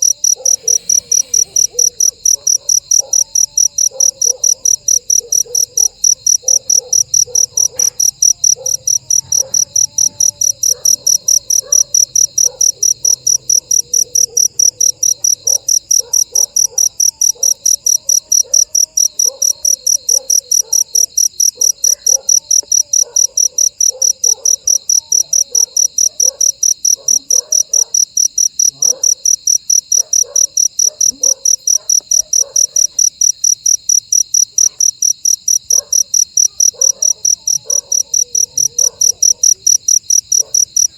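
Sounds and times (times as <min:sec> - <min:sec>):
cricket pulsed trill: 0:00.0 - 0:40.9.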